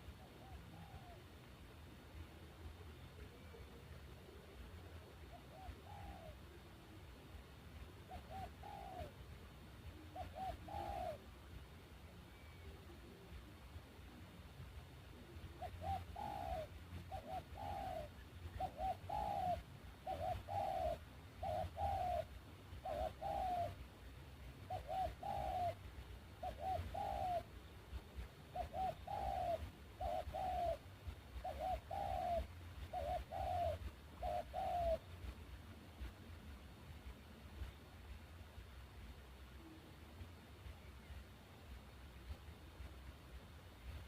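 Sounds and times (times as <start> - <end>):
dove cooing: 0.0 - 1.7, 2.3 - 36.2, 39.4 - 40.3.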